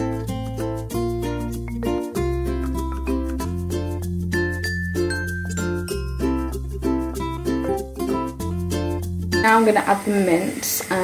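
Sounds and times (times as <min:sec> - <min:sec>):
steady bass line: 0:00.0 - 0:09.5
upbeat plucked string tune: 0:00.0 - 0:10.2.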